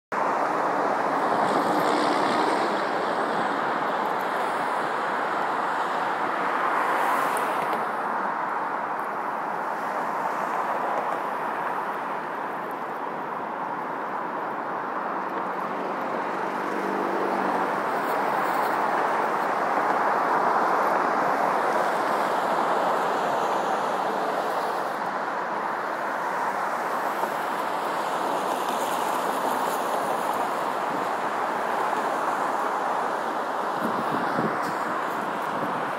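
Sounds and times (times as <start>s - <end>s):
road traffic passing: 0.1s - 35.9s.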